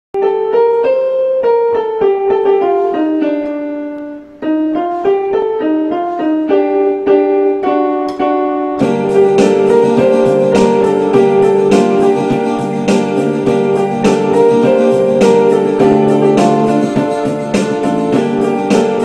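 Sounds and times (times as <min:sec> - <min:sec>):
electronic keyboard melody: 0:00.2 - 0:19.0
lower keyboard accompaniment: 0:00.2 - 0:19.0.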